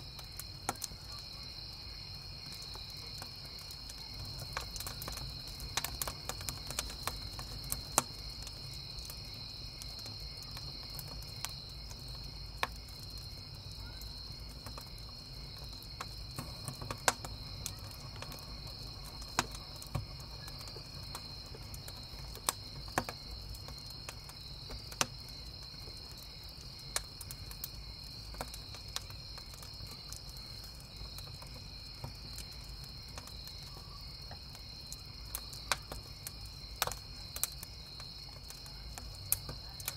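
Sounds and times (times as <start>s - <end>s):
campfire wood crackling: 0.0s - 39.9s
crickets chirping: 0.0s - 39.9s.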